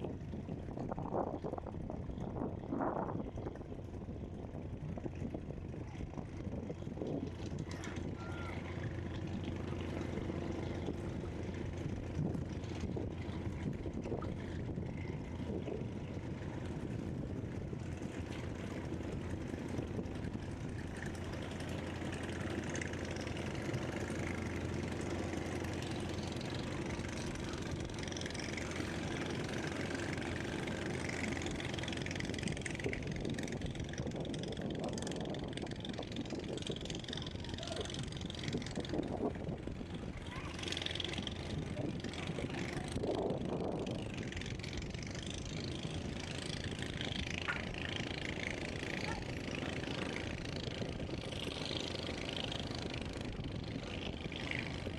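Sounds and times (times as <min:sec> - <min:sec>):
low engine drone: 0:00.0 - 0:54.9.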